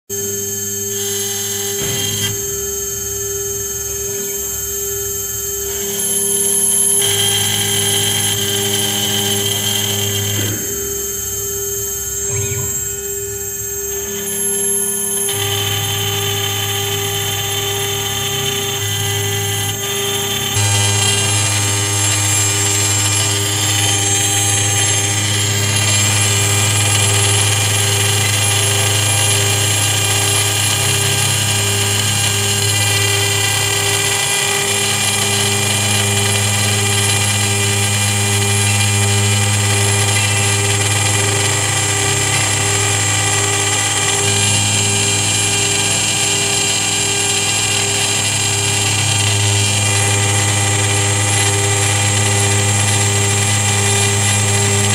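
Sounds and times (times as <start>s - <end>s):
router spindle high whine: 0.1s - 54.9s
low hum: 0.2s - 54.9s.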